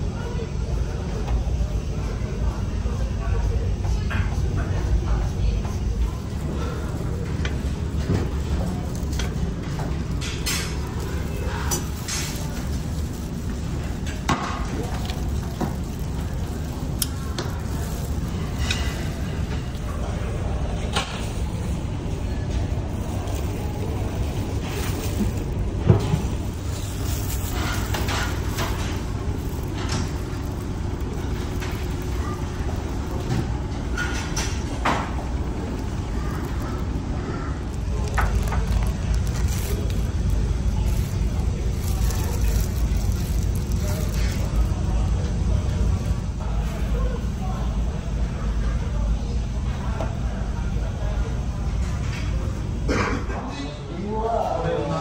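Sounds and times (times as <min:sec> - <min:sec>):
ferry engine rumble: 0:00.0 - 0:53.8.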